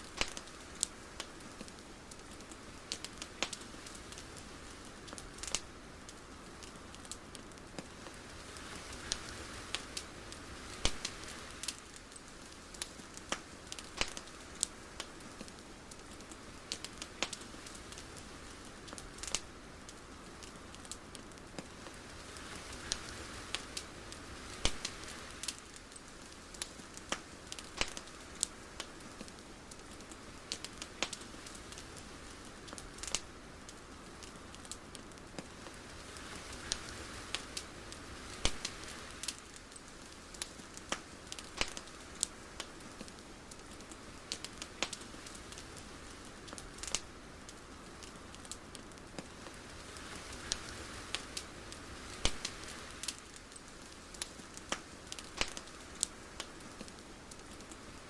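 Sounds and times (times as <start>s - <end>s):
crackling clicks and pops: 0.0s - 58.0s
faint steady hiss: 0.0s - 58.0s.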